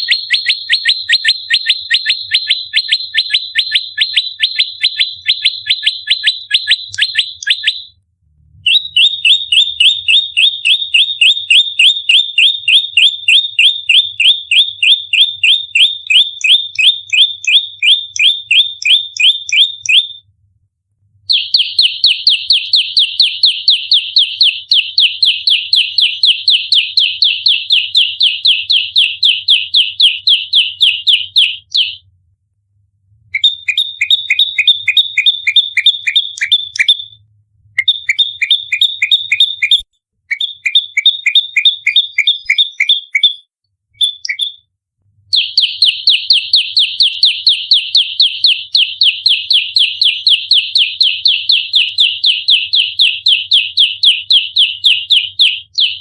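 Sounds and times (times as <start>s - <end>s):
songbird rapid sharp chirps: 0.0s - 7.9s, 8.7s - 20.2s, 21.3s - 32.0s, 33.4s - 37.2s, 37.8s - 44.7s, 45.3s - 56.0s.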